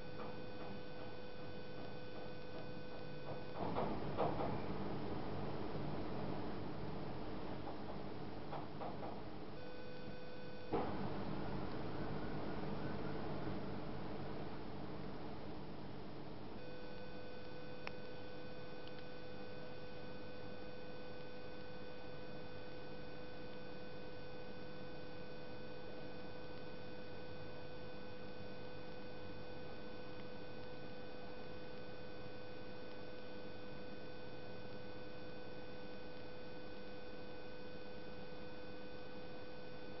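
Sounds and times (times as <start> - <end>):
steady electrical whine: 0.0 - 40.0.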